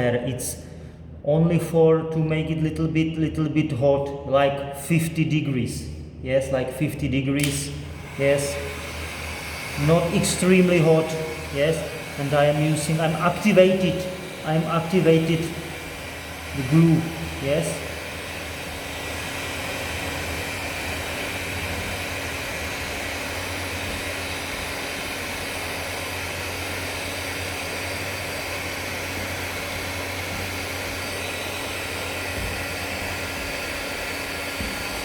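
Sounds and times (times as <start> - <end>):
hot-air blower running: 5.7 - 35.0.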